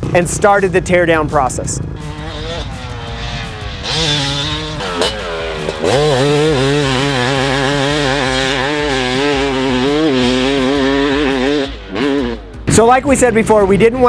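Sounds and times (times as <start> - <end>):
two-stroke dirt bike engine revving: 0.0 - 14.0.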